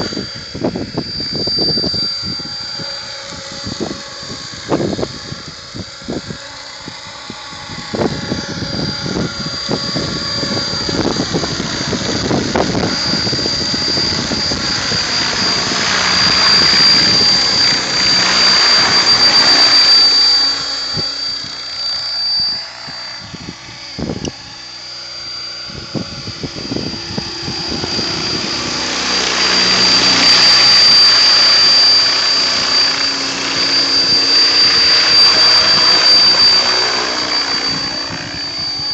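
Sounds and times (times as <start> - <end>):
helicopter rotor blades whooshing: 0.0 - 38.9
high electric motor whine: 0.0 - 38.9
low wind buffeting: 0.0 - 38.9.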